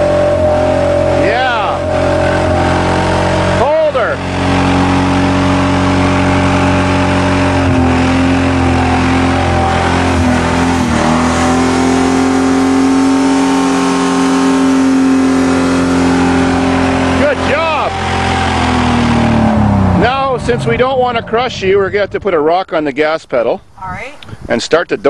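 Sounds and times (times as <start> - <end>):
car engine at high revs: 0.0 - 22.4.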